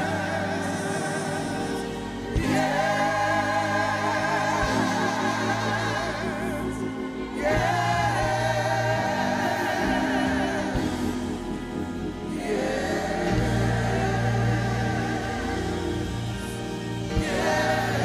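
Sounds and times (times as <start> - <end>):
gospel choir singing: 0.0 - 18.0
low musical accompaniment: 0.0 - 18.0.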